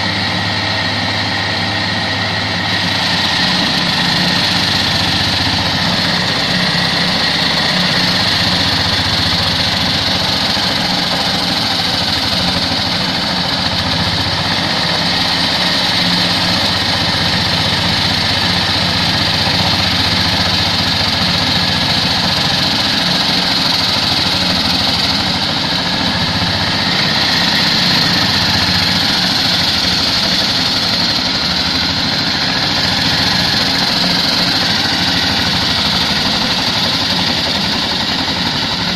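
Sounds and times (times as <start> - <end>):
diesel engine chugging: 0.0 - 38.9
blade grinding into wet concrete: 2.4 - 38.9.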